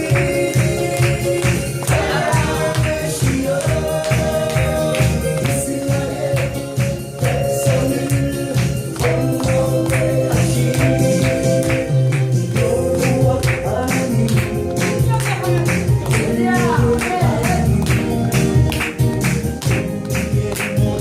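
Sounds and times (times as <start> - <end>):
gospel worship music with singing: 0.0 - 21.0.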